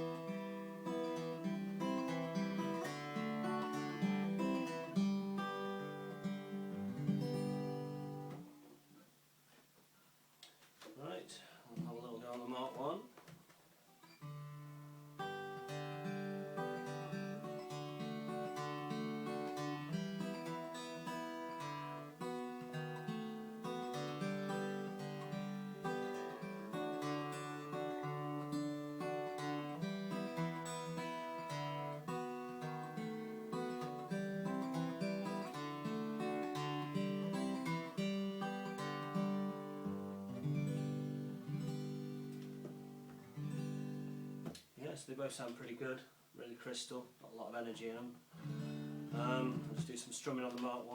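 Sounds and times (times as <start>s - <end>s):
fingerpicked acoustic guitar: 0.0s - 9.6s, 11.7s - 45.8s, 48.2s - 50.9s.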